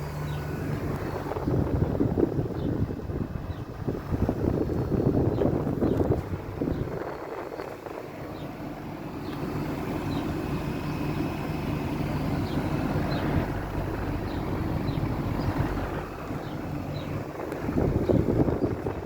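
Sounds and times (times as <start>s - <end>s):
rushing fan noise: 0.0s - 19.0s.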